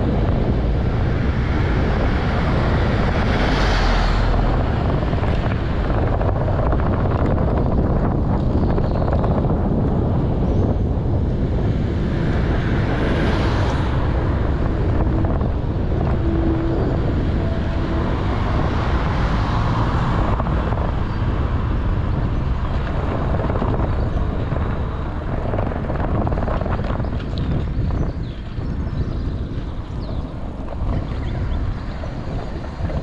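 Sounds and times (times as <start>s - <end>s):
steady rumble: 0.0s - 33.0s
wind buffeting microphone: 0.0s - 33.0s.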